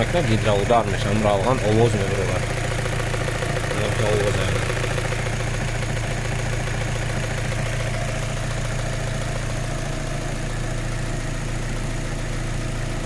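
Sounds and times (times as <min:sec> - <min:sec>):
car engine idling: 0:00.0 - 0:13.0
rapid engine knocking: 0:00.0 - 0:13.0.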